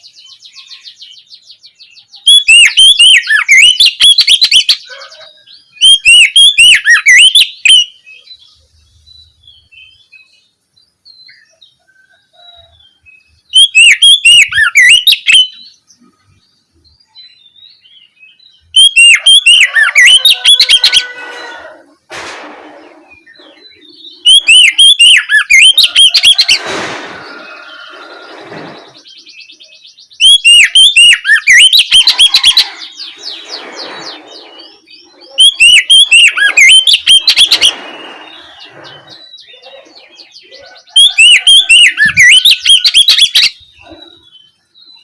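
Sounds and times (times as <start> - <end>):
bird singing rapid high notes: 0.0 - 10.5, 13.4 - 16.0, 17.0 - 21.6, 23.0 - 26.6, 27.2 - 45.0.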